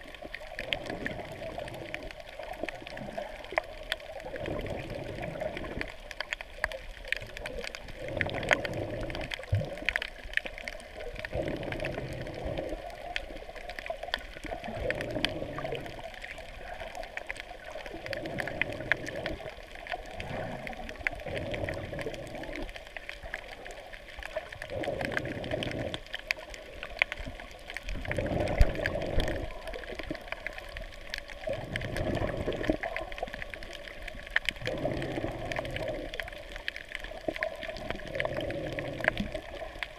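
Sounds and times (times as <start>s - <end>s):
faint crackling clicks: 0.0s - 39.9s
muffled underwater sloshing: 0.0s - 39.9s.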